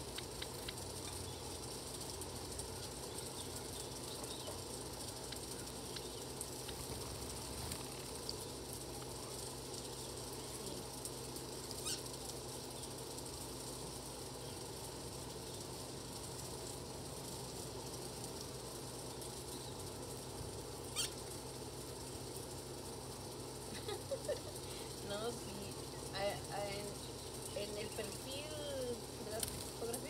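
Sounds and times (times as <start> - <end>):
small birds chirping: 0.0 - 16.6, 18.9 - 20.0, 20.7 - 30.0
outdoor background hiss: 0.0 - 30.0.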